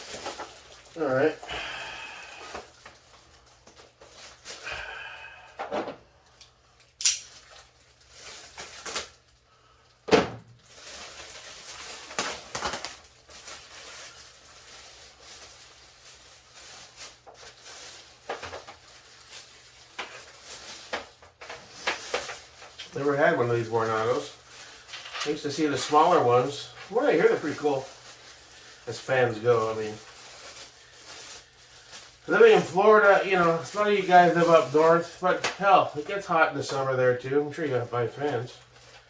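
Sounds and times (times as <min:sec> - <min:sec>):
rustling packaging: 0:00.0 - 0:39.0.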